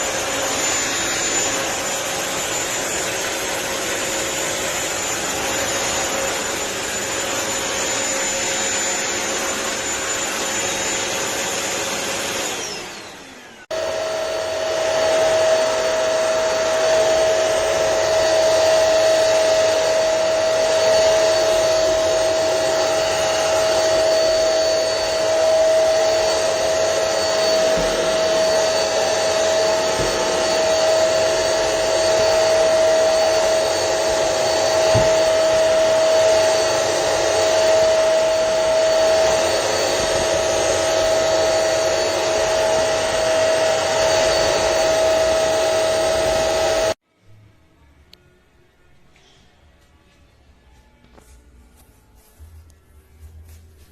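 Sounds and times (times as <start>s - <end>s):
floor cleaner motor whining: 0.0s - 47.0s.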